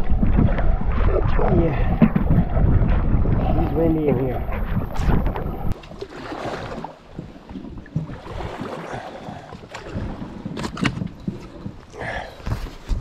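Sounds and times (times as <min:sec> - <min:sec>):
paddle splashing through water: 0:00.0 - 0:13.0.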